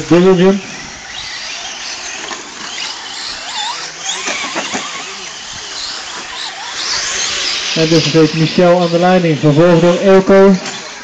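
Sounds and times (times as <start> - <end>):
rc truck motors whining: 0.0 - 11.0.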